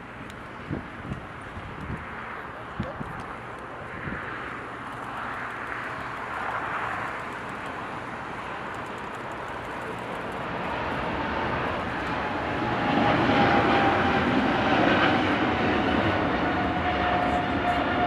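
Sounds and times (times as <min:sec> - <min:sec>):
jet airliner passing: 0:00.0 - 0:18.0.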